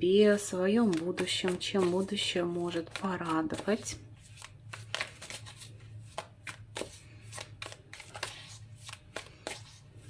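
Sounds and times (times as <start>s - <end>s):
cards being shuffled: 0.4s - 10.0s.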